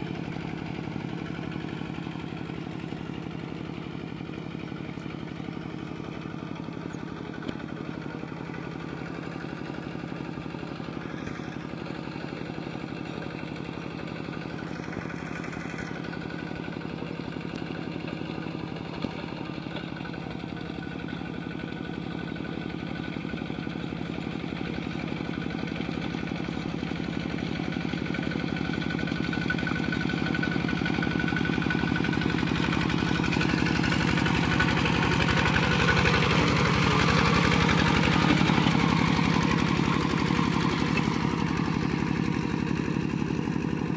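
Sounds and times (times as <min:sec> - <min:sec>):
diesel tractor engine running: 0:00.0 - 0:43.9.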